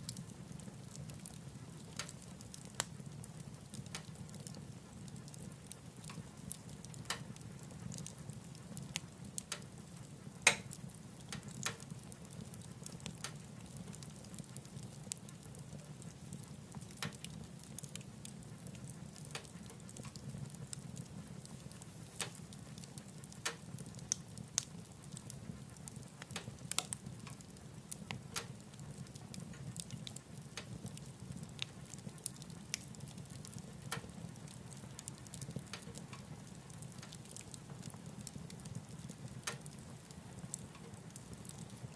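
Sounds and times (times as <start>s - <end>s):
low rumble of flames: 0.0s - 41.9s
wood fire crackling: 0.0s - 41.9s.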